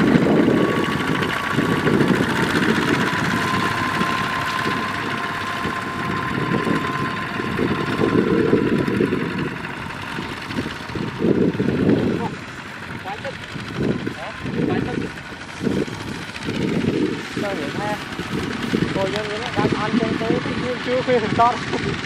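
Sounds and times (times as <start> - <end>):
diesel engines chugging: 0.0 - 22.0.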